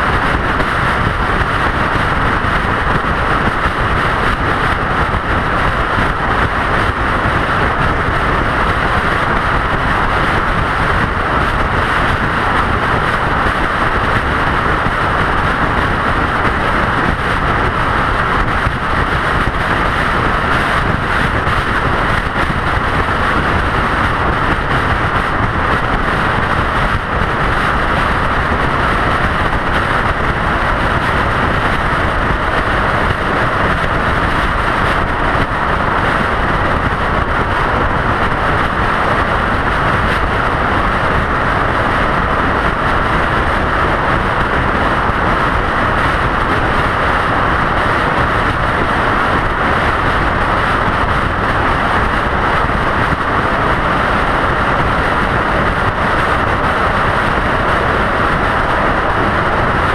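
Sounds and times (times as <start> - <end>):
vehicle road and wind noise: 0.0 - 59.9.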